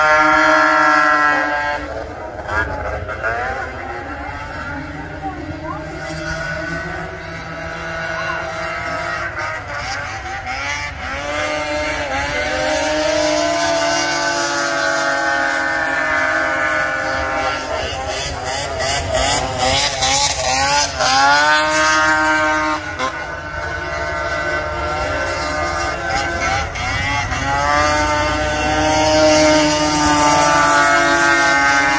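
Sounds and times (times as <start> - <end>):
snowmobile engines racing: 0.0 - 31.9.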